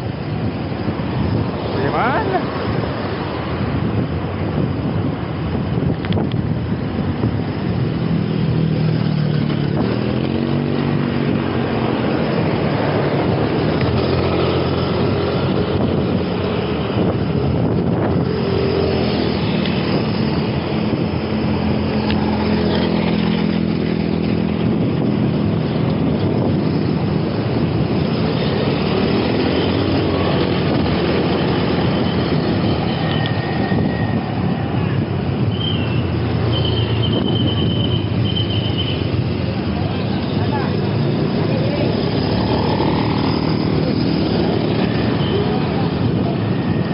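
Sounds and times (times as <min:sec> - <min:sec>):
vehicles passing by: 0:00.0 - 0:46.9
wind and road noise: 0:00.0 - 0:46.9.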